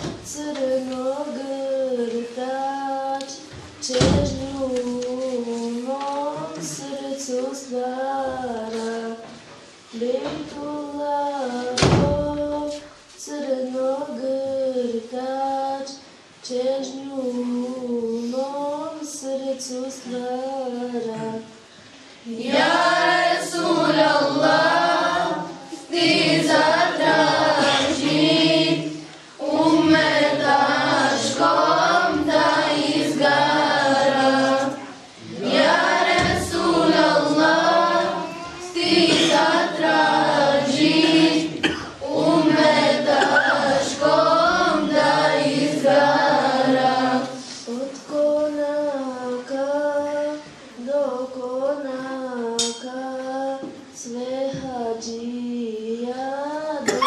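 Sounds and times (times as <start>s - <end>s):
children singing a hymn: 0.0s - 57.0s.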